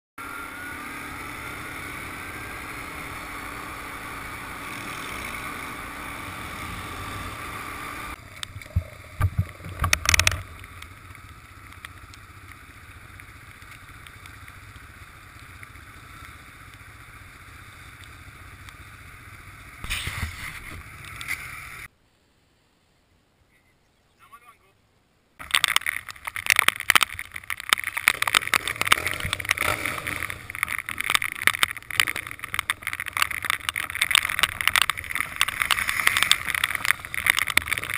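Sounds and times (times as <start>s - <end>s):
quad bike engine running: 0.2s - 21.9s, 25.4s - 37.9s
wind and road noise: 0.2s - 37.9s.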